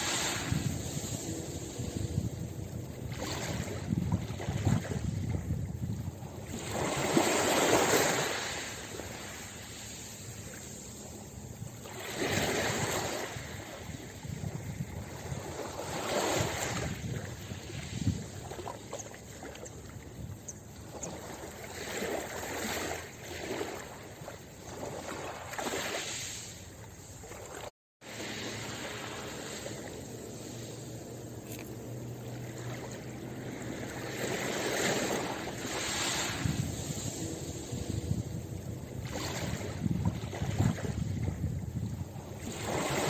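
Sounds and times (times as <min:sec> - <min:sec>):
waves lapping on pebble beach: 0:00.0 - 0:19.5, 0:20.8 - 0:43.0.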